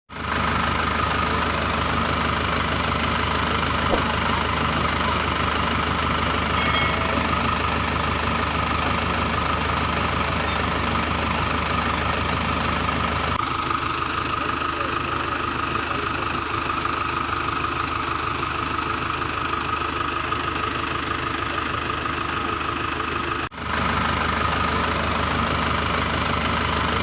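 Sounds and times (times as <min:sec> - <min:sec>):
tractor engine idling: 0:00.1 - 0:27.0.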